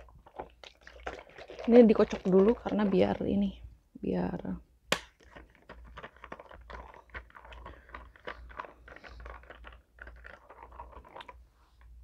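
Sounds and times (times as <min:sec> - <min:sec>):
plastic straw stirring drink: 0:00.0 - 0:03.6, 0:05.2 - 0:11.4.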